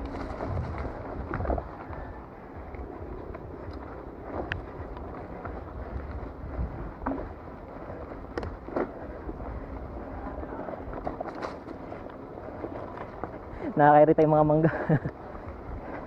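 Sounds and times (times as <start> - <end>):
bike knocking and rattling: 0.0 - 13.6
bike tyres rolling on dirt: 0.0 - 16.0
wind rushing over microphone: 0.0 - 16.0.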